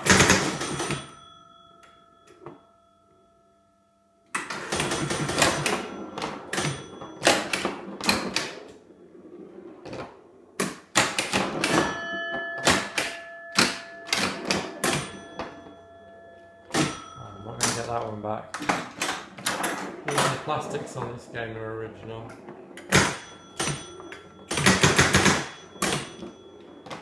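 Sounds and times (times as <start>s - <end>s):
pinball machine clicks and knocks: 0.0s - 2.6s, 4.3s - 8.7s, 9.9s - 21.0s, 22.3s - 27.0s.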